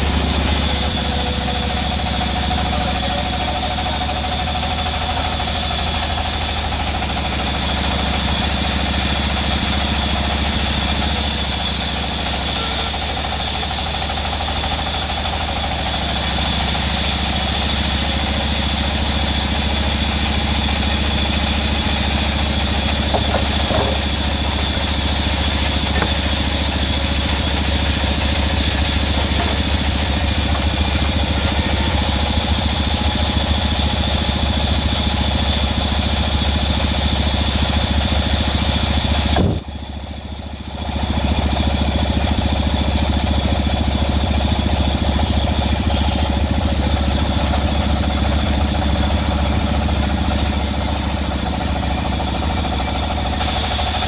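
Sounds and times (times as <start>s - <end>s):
band saw cutting timber: 0.0s - 40.0s, 40.9s - 54.0s.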